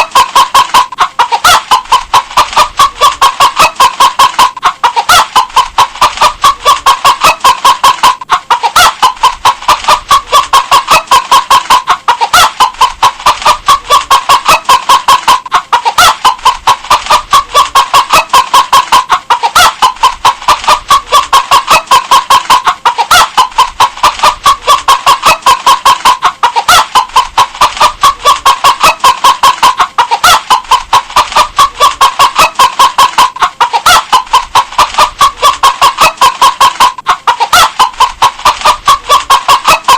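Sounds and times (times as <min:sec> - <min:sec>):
hen clucking: 0:00.0 - 0:39.9.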